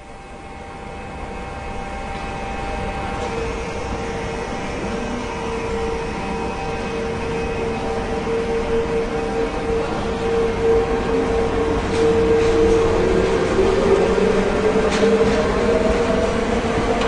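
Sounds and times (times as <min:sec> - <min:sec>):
strong train tone: 0:00.0 - 0:17.0
train rumble and hum: 0:00.0 - 0:17.0.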